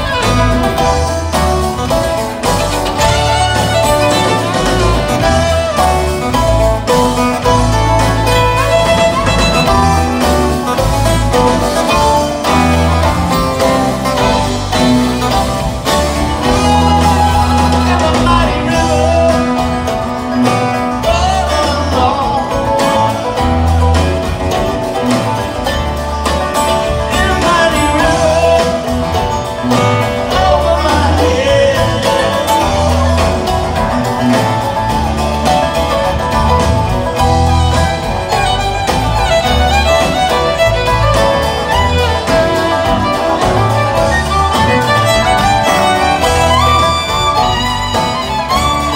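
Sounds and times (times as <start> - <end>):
bluegrass string band playing: 0.0 - 48.9
fiddle: 0.0 - 48.9.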